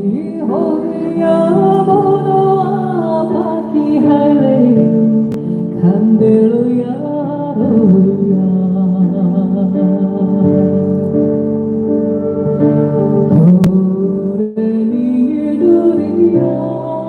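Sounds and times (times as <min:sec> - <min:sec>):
woman singing folk melody: 0:00.0 - 0:11.2, 0:13.3 - 0:17.0.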